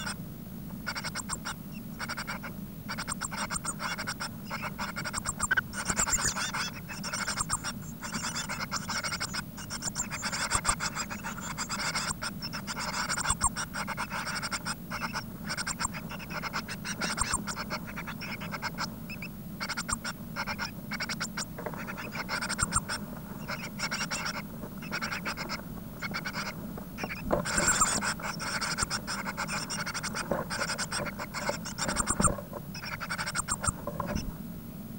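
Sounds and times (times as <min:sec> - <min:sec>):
nestlings begging calls: 0:00.0 - 0:34.3
chicks scratching and rustling: 0:00.0 - 0:34.5.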